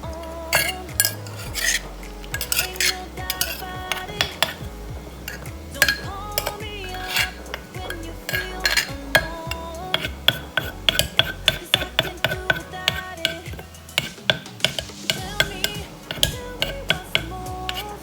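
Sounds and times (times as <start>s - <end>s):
soft background music: 0.0s - 18.0s
utensils clinking against bowl: 0.2s - 18.0s.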